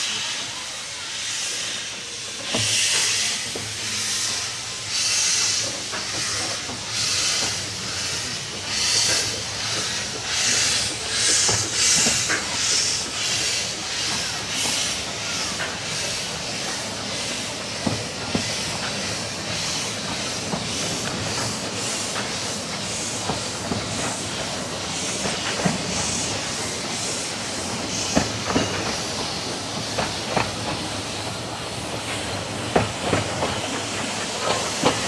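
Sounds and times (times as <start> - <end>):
steam locomotive chuffing: 0.0 - 35.0.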